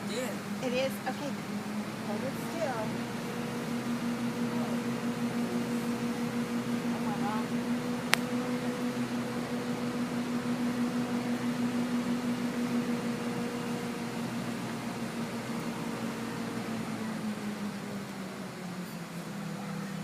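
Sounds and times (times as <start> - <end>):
machinery engine humming: 0.0 - 20.0.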